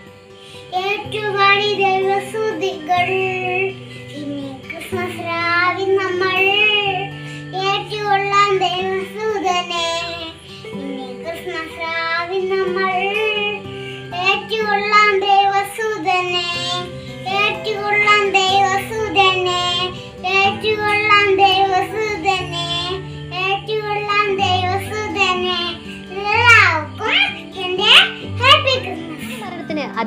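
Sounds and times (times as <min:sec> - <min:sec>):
instrumental backing music: 0:00.0 - 0:30.0
child singing: 0:00.7 - 0:29.8.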